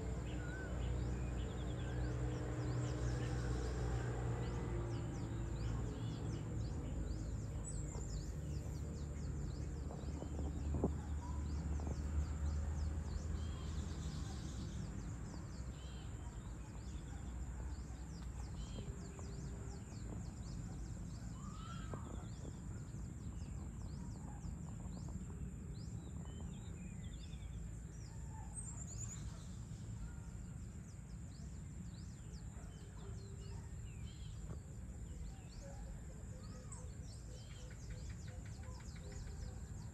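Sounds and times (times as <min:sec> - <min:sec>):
bird chirps and calls: 0:04.5 - 0:25.4, 0:26.1 - 0:39.9.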